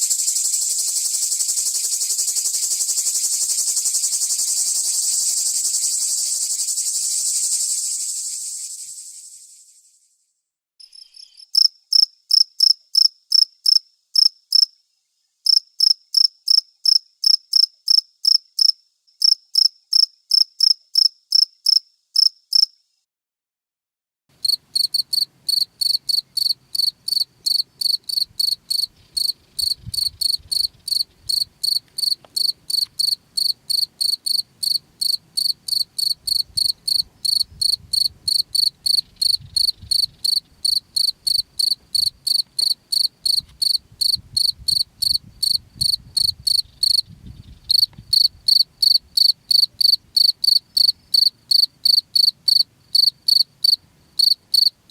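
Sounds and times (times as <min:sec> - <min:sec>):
crickets chirping: 0:00.0 - 0:10.2, 0:10.9 - 0:22.9, 0:24.4 - 0:54.8.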